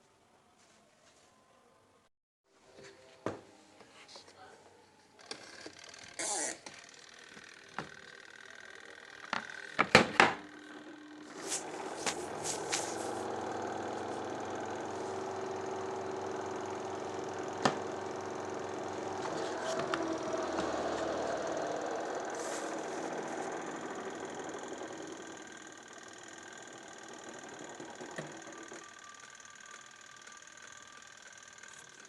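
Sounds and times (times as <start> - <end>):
spin-dryer motor humming: 5.2 - 32.0.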